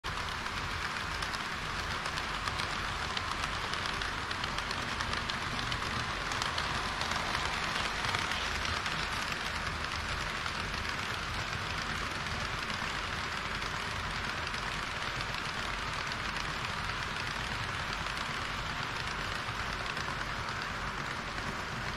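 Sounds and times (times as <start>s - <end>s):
fine rapid clicking: 0.0s - 21.9s
model train wheels rolling on rails: 0.0s - 21.9s.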